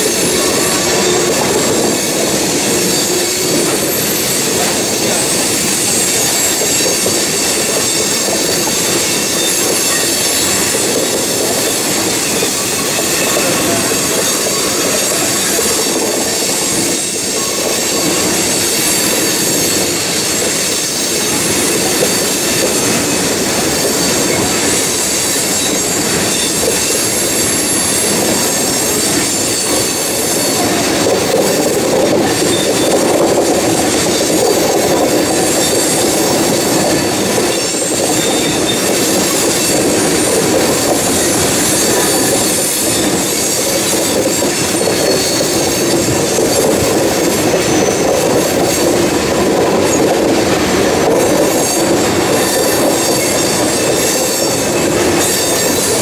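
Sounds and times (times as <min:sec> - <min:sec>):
high-pitched wheel squeal: 0:00.0 - 0:48.8, 0:51.2 - 0:56.0
train wheels rumbling on rail: 0:00.0 - 0:56.0.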